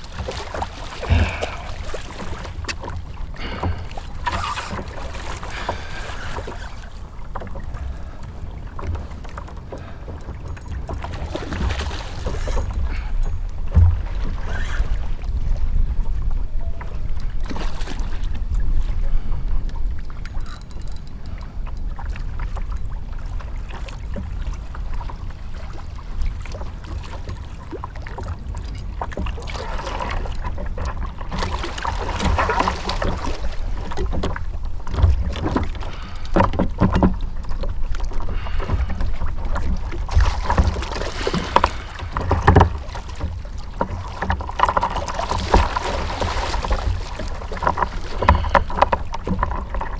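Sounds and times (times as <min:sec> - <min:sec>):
water against kayak hull: 0:00.0 - 0:49.9.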